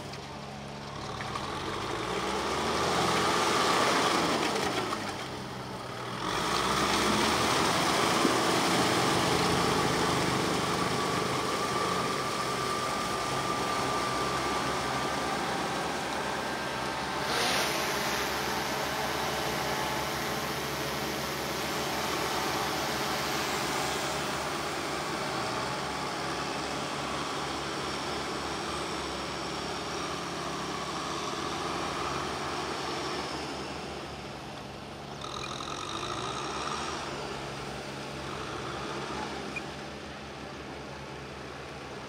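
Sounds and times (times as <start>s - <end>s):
diesel tractor engine running: 0.0s - 42.0s.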